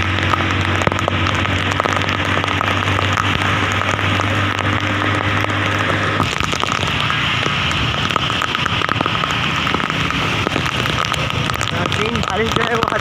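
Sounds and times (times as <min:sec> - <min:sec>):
heavy rain pattering: 0:00.0 - 0:13.0.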